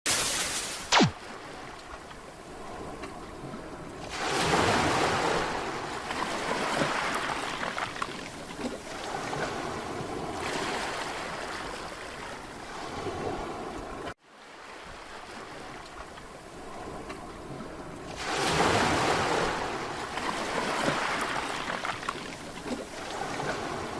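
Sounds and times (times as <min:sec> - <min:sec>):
sea waves breaking on beach: 0:02.3 - 0:23.9.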